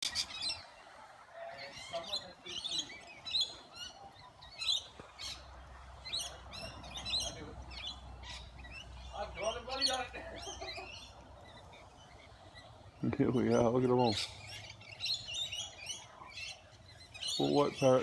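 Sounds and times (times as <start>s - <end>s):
parrots chattering and screeching: 1.6s - 18.0s.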